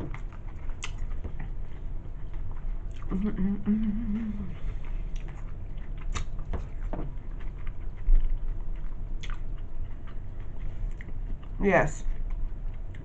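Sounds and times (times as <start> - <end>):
chewing and wet mouth smacks: 0.0 - 3.4, 4.1 - 13.0.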